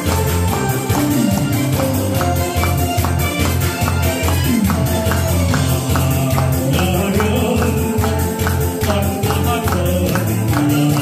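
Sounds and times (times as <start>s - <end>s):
upbeat keyboard song through speakers: 0.0s - 11.0s.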